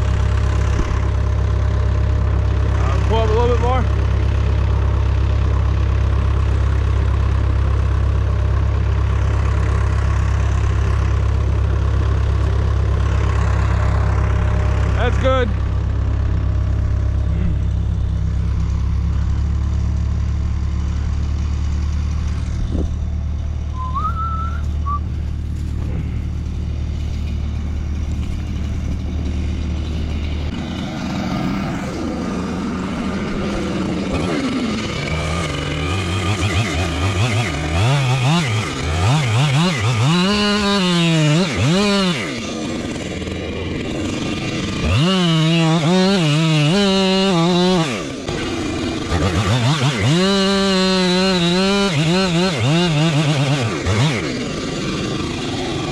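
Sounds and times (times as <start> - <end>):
chainsaw revving: 0.0 - 55.9
heavy engine idling: 0.0 - 55.9.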